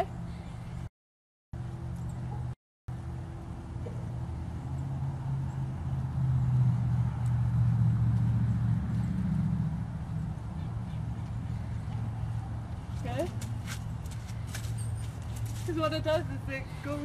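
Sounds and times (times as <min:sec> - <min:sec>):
motor vehicle engine hum: 0:01.6 - 0:17.0.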